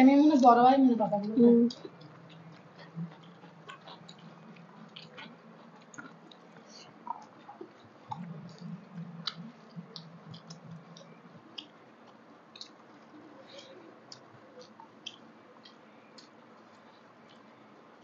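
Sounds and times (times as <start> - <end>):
faint low hum: 0.0 - 18.0
mouths chewing: 0.1 - 18.0.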